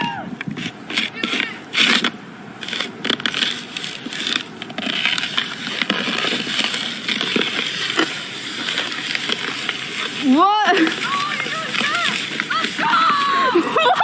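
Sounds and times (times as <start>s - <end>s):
snow crunching and scraping: 0.5s - 14.0s.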